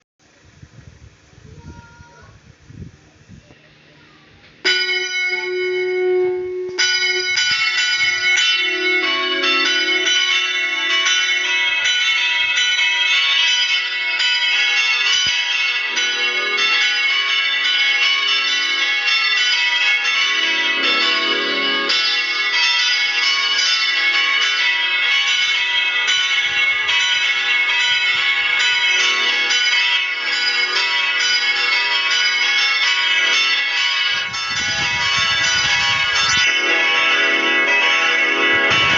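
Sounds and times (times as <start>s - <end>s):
bells ringing in a rapid peal: 4.6s - 38.9s.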